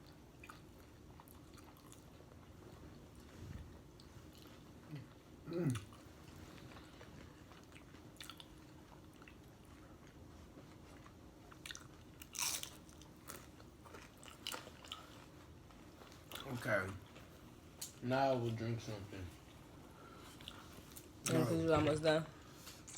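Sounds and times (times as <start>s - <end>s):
chewing: 0.0s - 18.0s, 20.2s - 21.1s.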